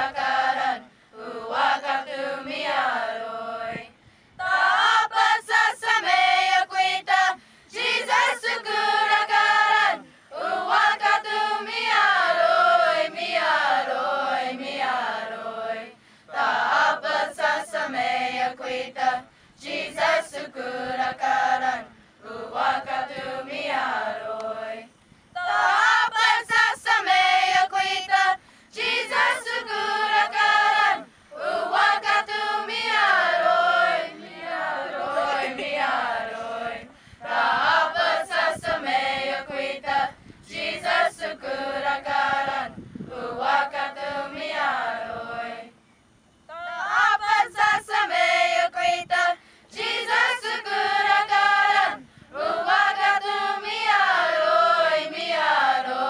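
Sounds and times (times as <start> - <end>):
choir singing a cappella: 0.0 - 45.8, 46.5 - 56.0.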